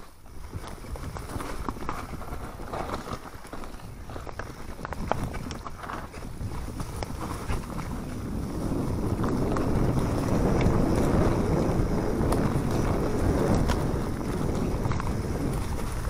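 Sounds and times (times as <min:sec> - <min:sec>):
bike clicks and rattles: 0:00.0 - 0:16.0
wind buffeting microphone: 0:00.0 - 0:16.0
tyres rumbling on dirt: 0:00.4 - 0:16.0.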